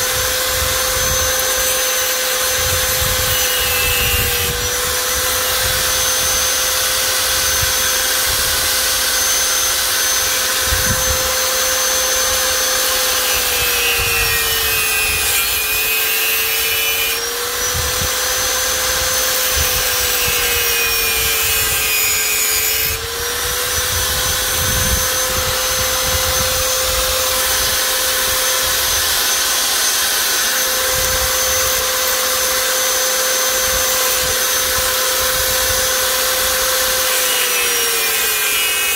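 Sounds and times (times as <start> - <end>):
power tool whining: 0.0 - 38.9.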